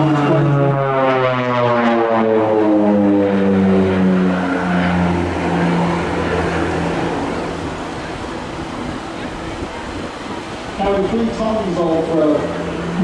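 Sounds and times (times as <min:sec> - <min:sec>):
propeller aircraft droning past: 0:00.0 - 0:13.0.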